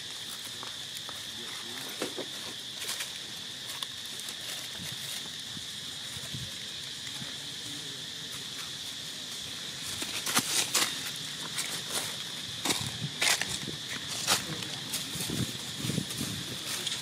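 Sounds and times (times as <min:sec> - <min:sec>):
dry leaves crackling: 0:00.0 - 0:17.0
high-pitched insect drone: 0:00.0 - 0:17.0.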